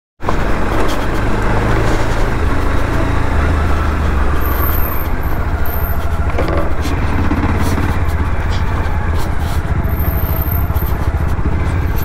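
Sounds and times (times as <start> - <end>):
motorcycle engine running: 0.2 - 12.0.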